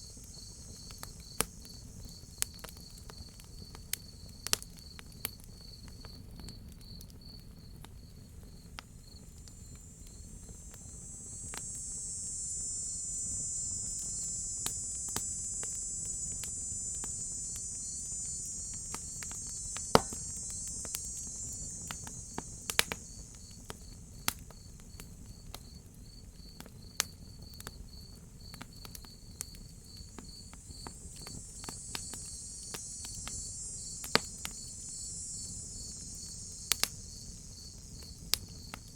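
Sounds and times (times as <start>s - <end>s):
high insect buzz: 0.0s - 3.8s, 8.5s - 26.2s, 28.0s - 38.9s
crickets chirping: 0.0s - 38.9s
wood fire crackling: 0.0s - 38.9s.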